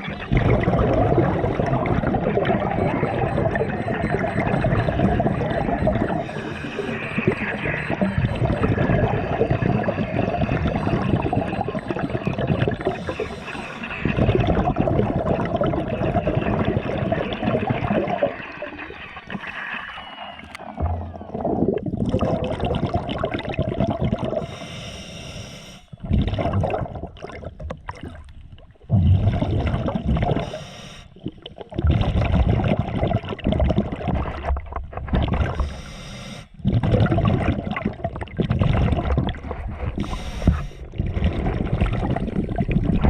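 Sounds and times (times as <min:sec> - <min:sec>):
underwater gurgling and rumbling: 0:00.0 - 0:24.6, 0:25.9 - 0:43.0.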